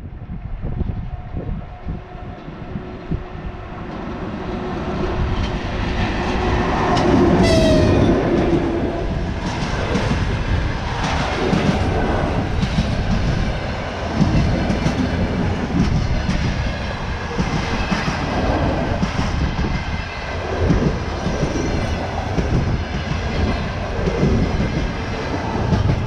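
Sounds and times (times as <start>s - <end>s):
train passing rumble: 0.0s - 26.0s.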